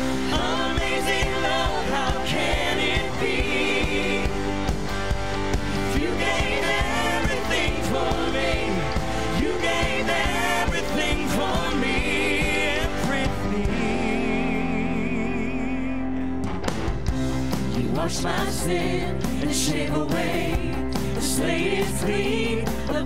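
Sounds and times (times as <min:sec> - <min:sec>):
group of people singing: 0:00.0 - 0:15.6, 0:17.6 - 0:23.0
worship band playing gospel song: 0:00.0 - 0:23.0.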